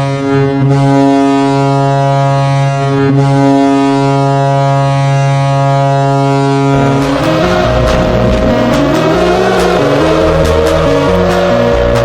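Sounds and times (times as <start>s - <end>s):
hockey goal horn: 0.0s - 12.0s.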